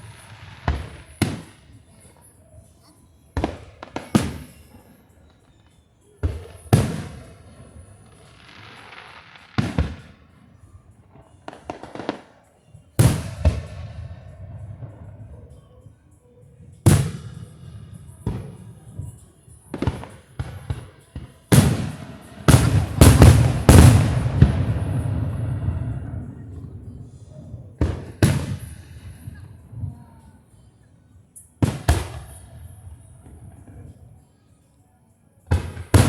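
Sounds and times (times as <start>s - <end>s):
fireworks booming with echo: 0.0s - 2.3s, 3.4s - 15.8s, 16.8s - 30.3s, 31.6s - 34.0s, 35.5s - 36.0s.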